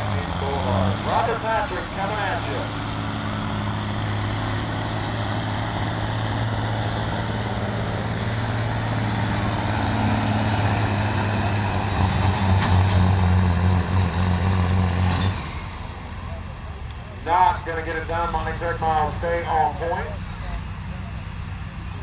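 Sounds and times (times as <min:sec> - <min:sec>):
diesel truck engine under load: 0:00.0 - 0:22.0.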